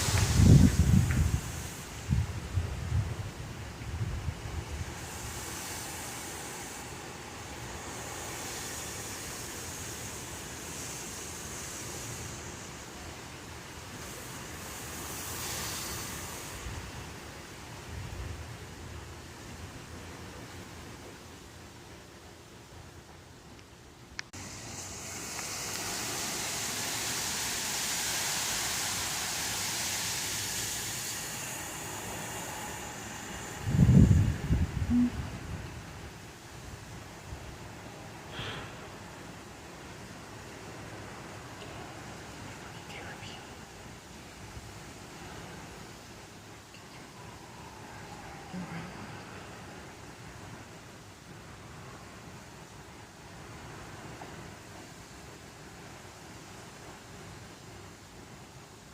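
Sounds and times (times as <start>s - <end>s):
rushing wind: 0.0s - 58.9s.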